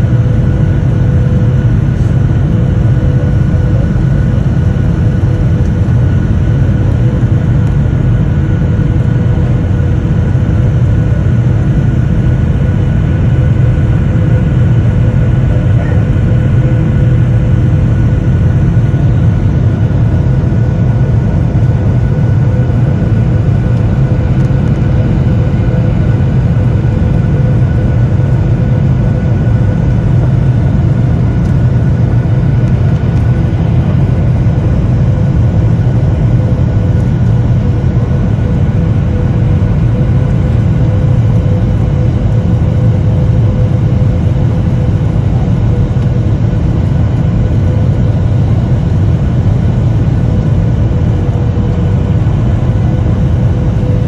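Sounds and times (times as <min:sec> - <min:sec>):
high whine: 0:00.0 - 0:54.0
jet engine rumble: 0:00.0 - 0:54.0.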